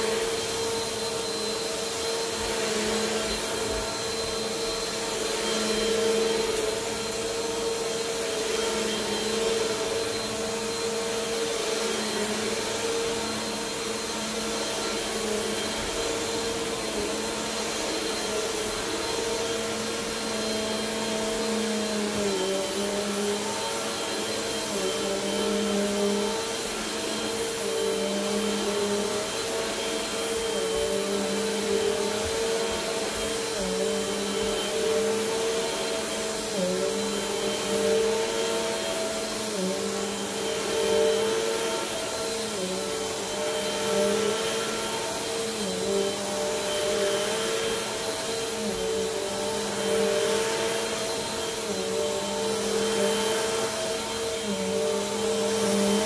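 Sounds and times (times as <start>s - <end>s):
vacuum cleaner motor humming: 0.0s - 56.0s.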